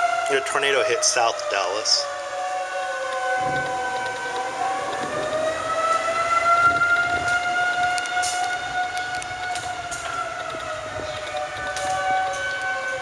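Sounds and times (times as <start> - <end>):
tornado warning sirens: 0.0 - 13.0.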